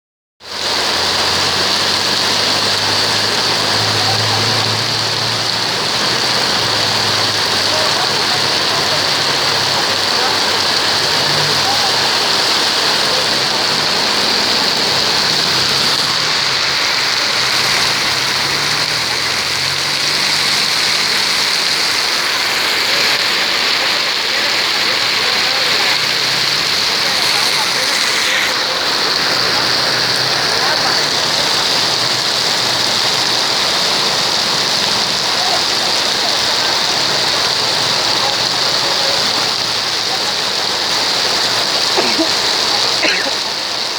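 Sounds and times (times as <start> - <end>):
heavy rain pattering: 0.4 - 43.9.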